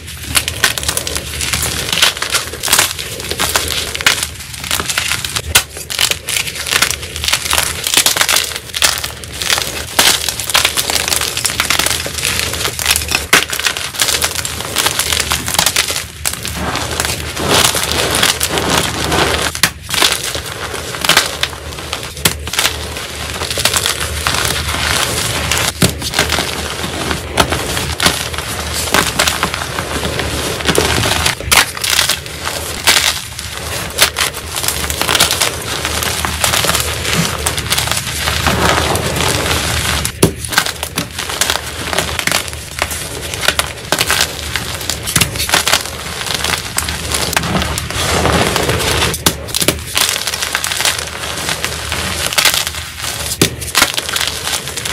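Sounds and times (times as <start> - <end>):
chalk crunching and crackling: 0.0 - 54.9
chalk pieces snapping: 0.0 - 54.9.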